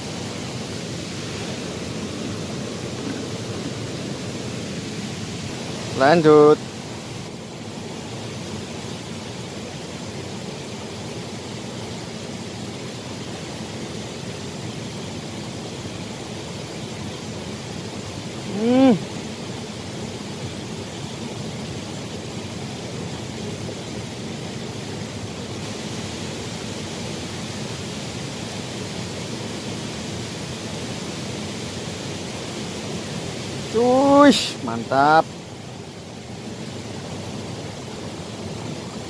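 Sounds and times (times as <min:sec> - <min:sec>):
stream water flowing: 0:00.0 - 0:39.0.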